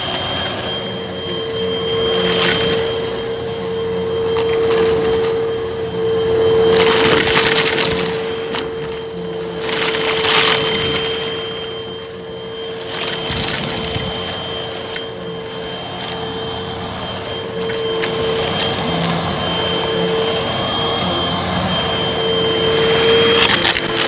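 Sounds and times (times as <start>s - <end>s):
debris crackling through nozzle: 0.0s - 24.0s
vacuum cleaner motor whine: 0.0s - 24.0s.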